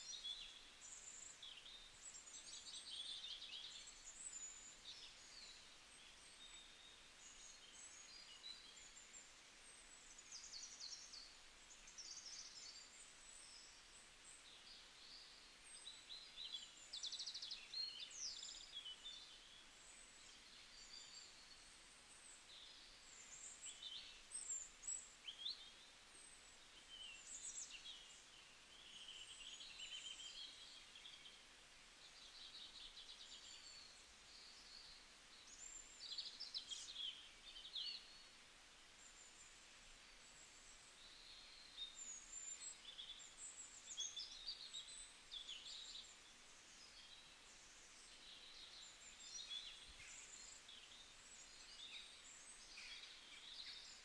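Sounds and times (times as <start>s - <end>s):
low steady hiss: 0.0s - 54.0s
small birds chirping: 0.0s - 54.0s.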